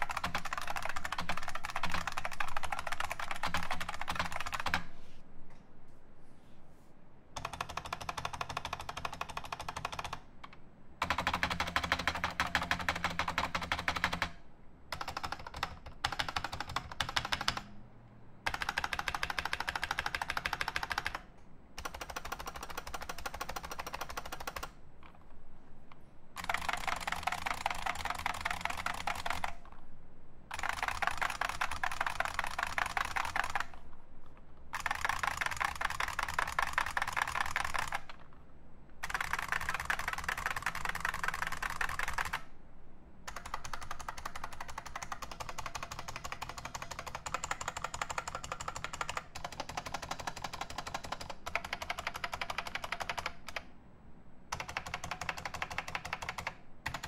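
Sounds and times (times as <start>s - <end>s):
clicky keyboard typing: 0.0s - 4.9s, 7.4s - 17.7s, 18.5s - 25.2s, 26.4s - 29.8s, 30.5s - 38.4s, 39.0s - 42.5s, 43.3s - 53.7s, 54.5s - 57.0s.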